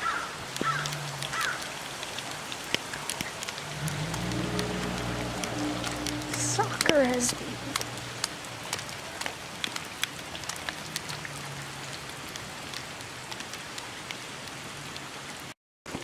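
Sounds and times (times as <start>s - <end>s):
rain falling: 0.0s - 16.0s
raindrops ticking close by: 0.0s - 16.0s.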